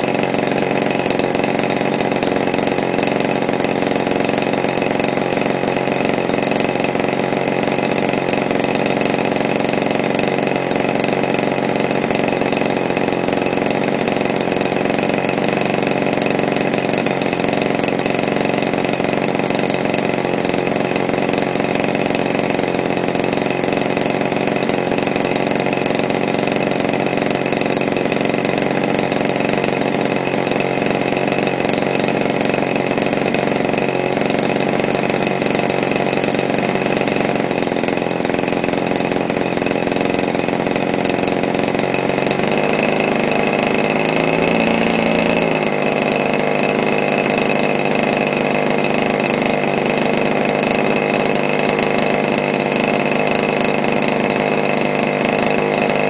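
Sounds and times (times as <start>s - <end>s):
model plane engine running: 0.0s - 56.0s.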